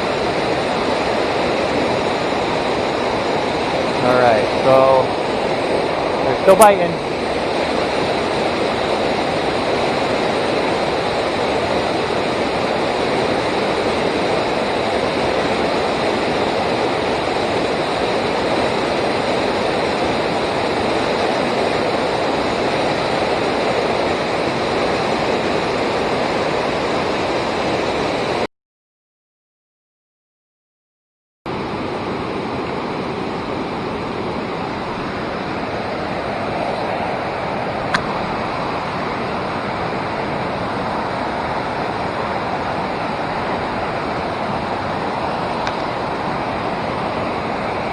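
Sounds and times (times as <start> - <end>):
river water rushing over rocks: 0.0 - 28.4, 31.5 - 47.9.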